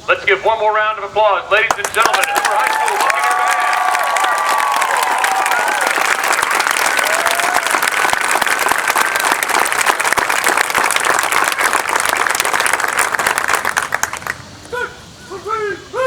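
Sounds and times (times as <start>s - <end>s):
audience applauding: 1.7s - 14.8s.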